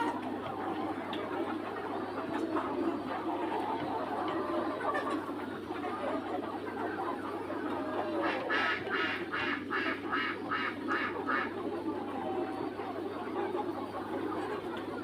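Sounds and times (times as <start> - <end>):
farmyard bird harsh calls: 0.0 - 15.0
poultry flock murmuring: 0.0 - 15.0.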